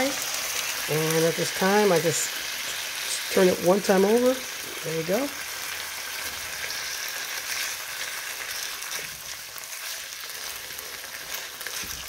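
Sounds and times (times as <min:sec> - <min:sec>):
chicken and onions sizzling in oil: 0:00.0 - 0:12.0.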